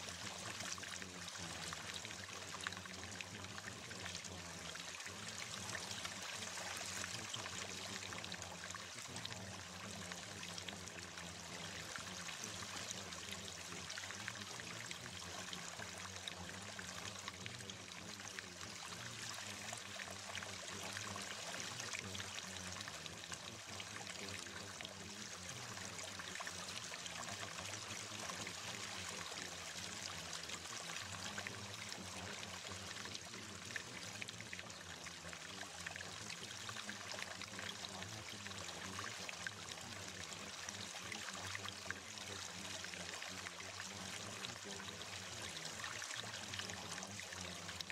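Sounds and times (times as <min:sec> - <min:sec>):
faint low hum: 0:00.0 - 0:47.9
running water: 0:00.0 - 0:47.9.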